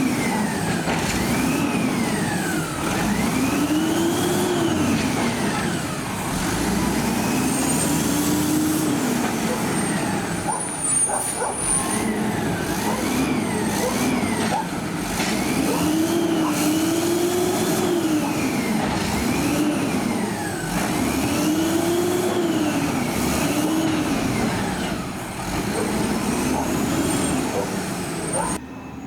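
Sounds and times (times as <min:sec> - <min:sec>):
garbage truck diesel engine revving: 0:00.0 - 0:28.6.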